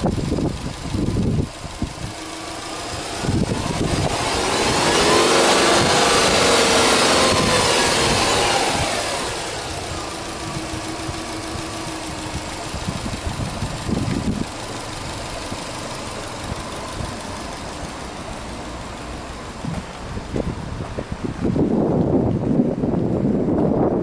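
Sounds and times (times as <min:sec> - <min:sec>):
car engine idling: 0:00.0 - 0:23.7
low rumble: 0:00.0 - 0:24.0.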